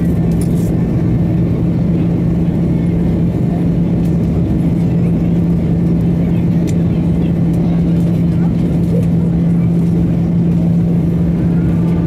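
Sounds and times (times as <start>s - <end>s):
jet engines droning: 0.0s - 12.0s
low hum: 0.0s - 12.0s.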